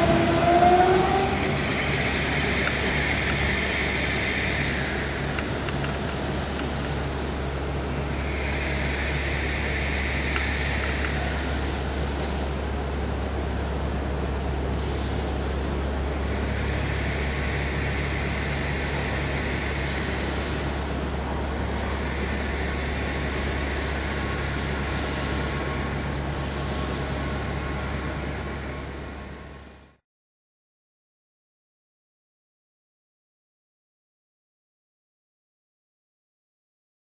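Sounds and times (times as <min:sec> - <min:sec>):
electric train humming and hissing: 0:00.0 - 0:30.0.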